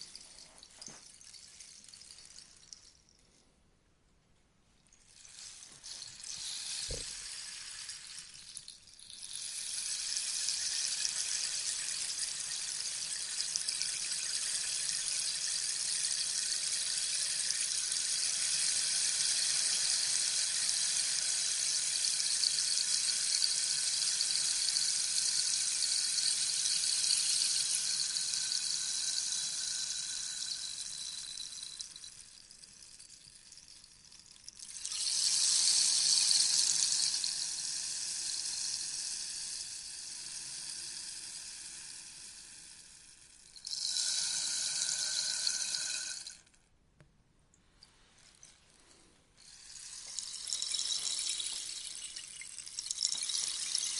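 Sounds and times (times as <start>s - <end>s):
rainstick pellets trickling: 0.0s - 3.2s, 5.0s - 46.6s, 47.8s - 53.9s.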